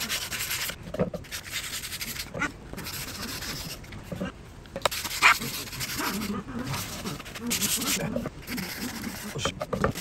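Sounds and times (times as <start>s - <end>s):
sandpaper rubbing on wood: 0.0s - 10.0s.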